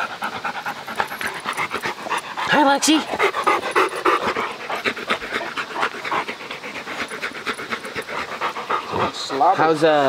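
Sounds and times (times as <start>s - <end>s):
dog panting rapidly: 0.0s - 10.0s.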